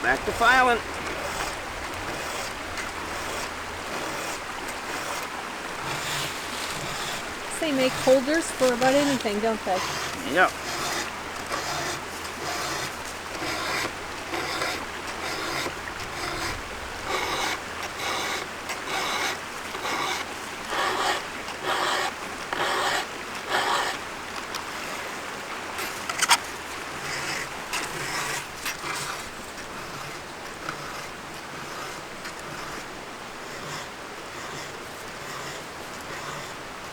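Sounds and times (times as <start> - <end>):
file rasping on chain teeth: 0.0 - 24.0, 27.0 - 36.7.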